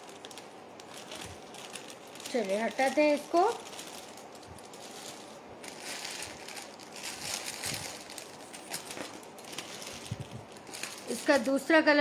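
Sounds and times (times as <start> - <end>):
jewellery handling rustling: 0.0 - 11.7
low steady hiss: 0.0 - 12.0.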